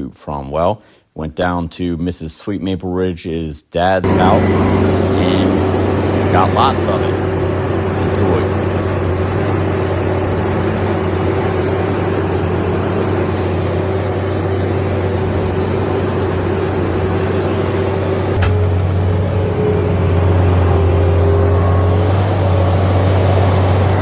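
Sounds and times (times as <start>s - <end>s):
engine running steadily: 4.0s - 24.0s.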